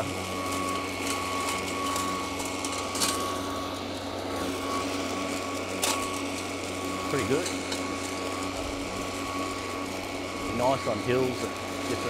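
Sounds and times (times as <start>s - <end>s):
electric lawn mower cutting grass: 0.0s - 12.0s.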